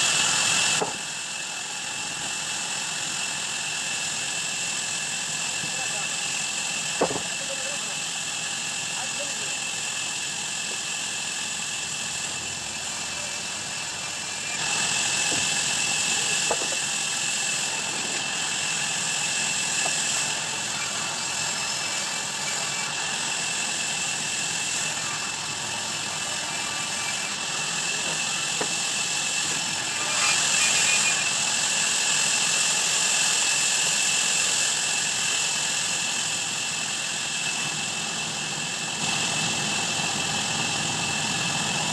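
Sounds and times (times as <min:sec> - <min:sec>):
band saw running: 0:00.0 - 0:41.9.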